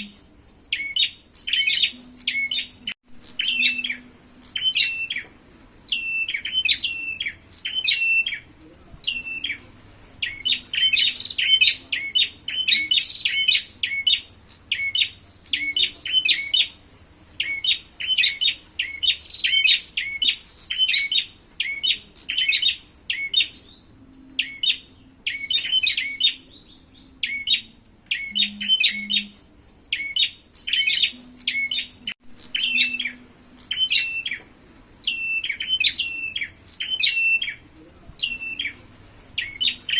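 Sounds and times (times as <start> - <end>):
birds chirping sharply: 0.0 - 39.9.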